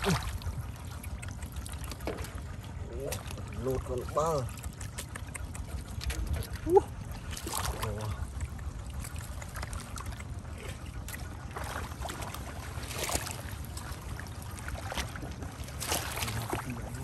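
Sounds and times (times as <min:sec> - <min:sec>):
muddy water splashing: 0:00.0 - 0:17.0
steady low rumble: 0:00.0 - 0:17.0.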